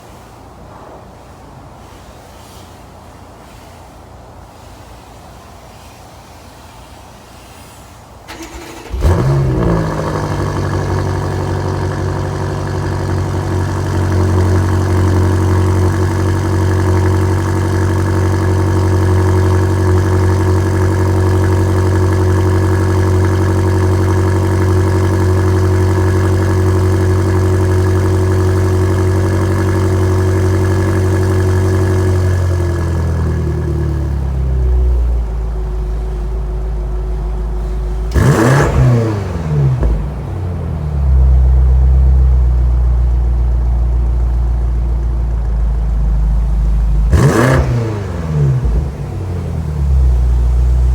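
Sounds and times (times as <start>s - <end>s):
car engine starting and idling: 8.3s - 50.9s.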